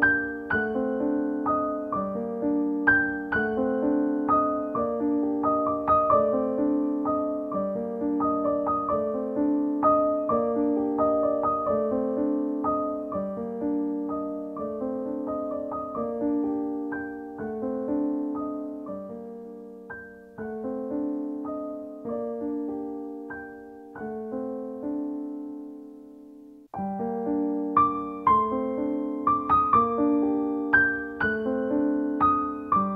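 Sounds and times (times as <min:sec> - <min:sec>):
solo piano music: 0:00.0 - 0:32.9.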